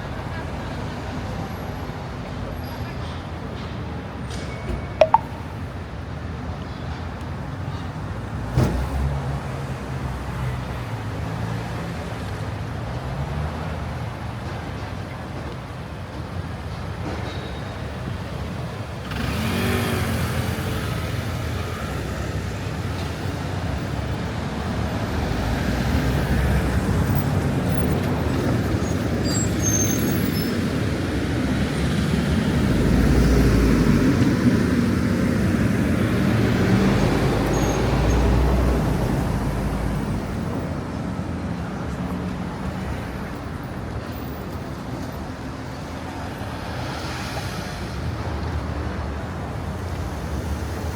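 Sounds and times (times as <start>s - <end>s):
passing cars: 7.6s - 50.9s.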